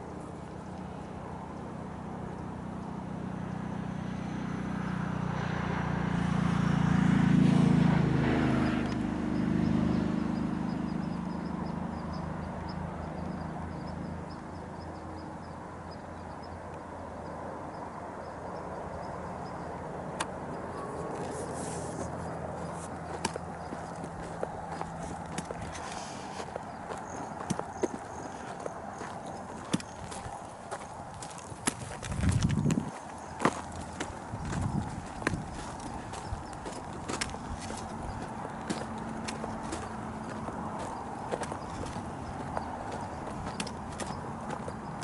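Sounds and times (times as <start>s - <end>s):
motor vehicle passing by: 0.0s - 45.0s.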